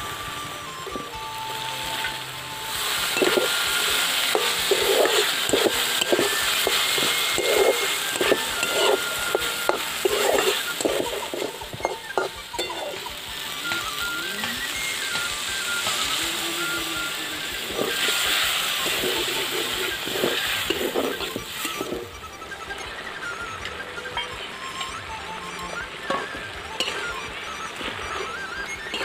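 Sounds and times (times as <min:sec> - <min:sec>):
food sizzling in a wok: 0:00.0 - 0:29.0
spatula scraping a wok: 0:02.7 - 0:23.1, 0:26.0 - 0:29.0.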